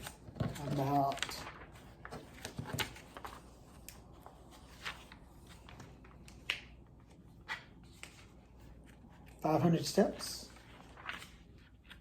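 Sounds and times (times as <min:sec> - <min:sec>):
paper booklet rustling: 0:00.0 - 0:12.0.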